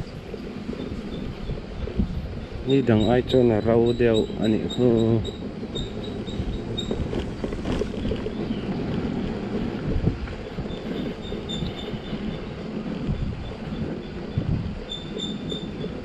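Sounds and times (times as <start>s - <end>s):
motorcycle rumbling on rough road: 0.0s - 16.0s
wind noise on microphone: 0.0s - 16.0s.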